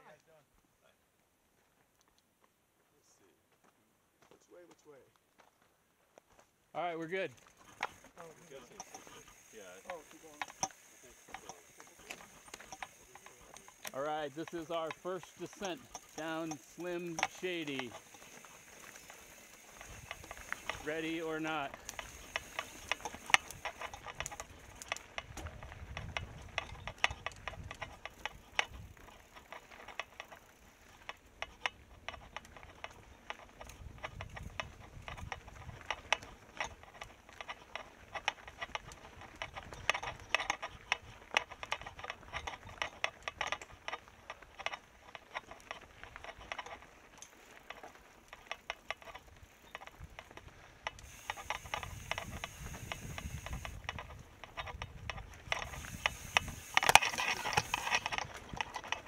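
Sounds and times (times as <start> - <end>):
mountain bike rattling over rocks: 6.8 - 59.0.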